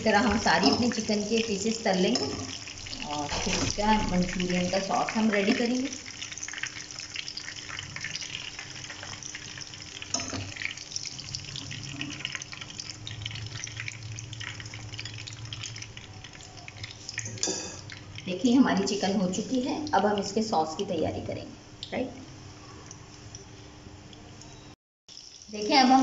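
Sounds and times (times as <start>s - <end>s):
chicken sizzling in hot oil: 0.0s - 21.4s, 25.1s - 26.0s.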